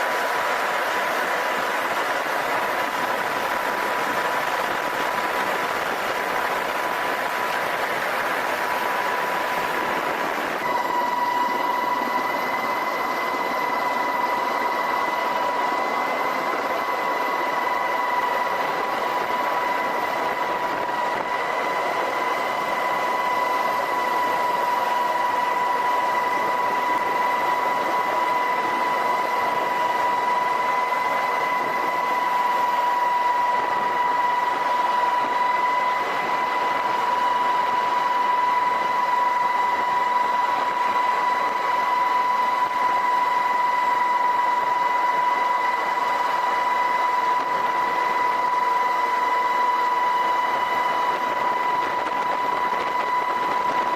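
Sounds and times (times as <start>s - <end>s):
helicopter rushing noise: 0.0s - 53.9s
helicopter turbine whine: 0.0s - 53.9s.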